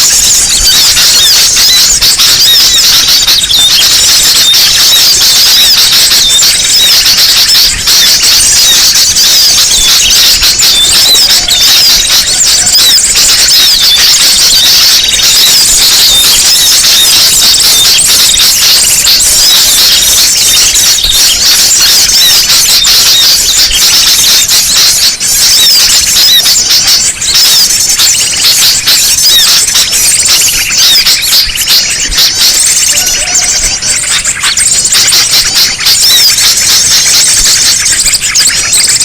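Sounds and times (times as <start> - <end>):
chorus of small birds twittering: 0.0 - 39.0.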